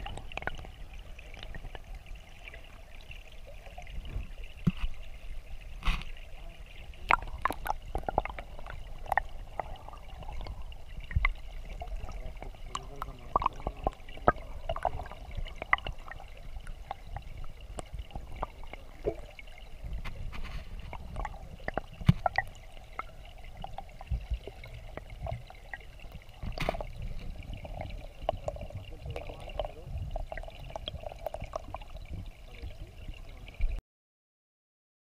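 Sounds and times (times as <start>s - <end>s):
underwater stream rushing: 0.0s - 33.8s.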